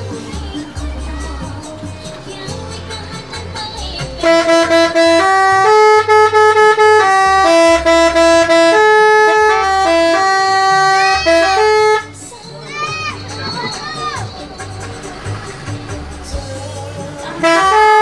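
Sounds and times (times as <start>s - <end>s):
bus air horn melody: 2.0s - 15.7s, 17.0s - 18.0s.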